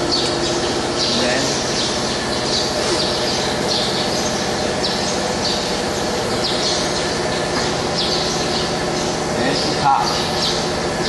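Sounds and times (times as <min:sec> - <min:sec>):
machine shop low hum: 0:00.0 - 0:11.0.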